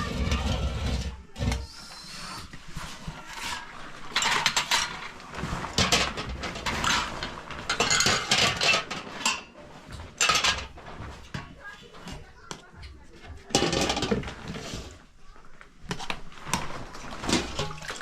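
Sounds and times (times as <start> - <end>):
dishes and utensils clattering: 0.0 - 18.0.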